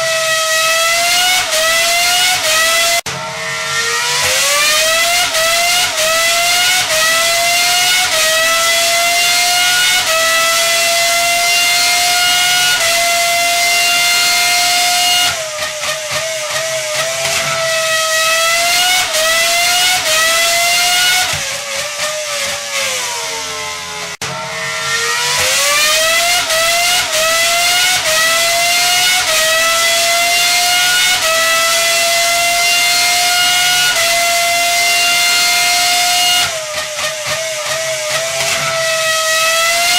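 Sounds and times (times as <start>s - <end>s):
engine revving through gears: 0.0s - 39.9s.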